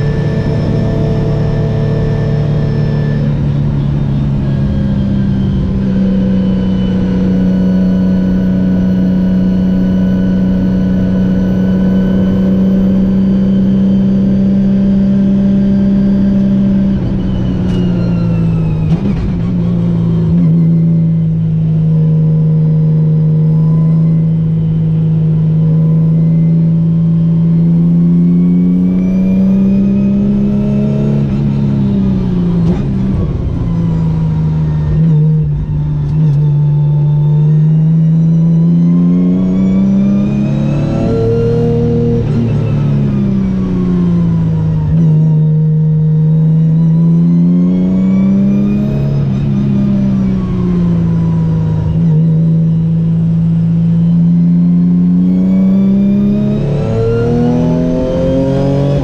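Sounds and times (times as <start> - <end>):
race car engine at speed: 0.0 - 59.0.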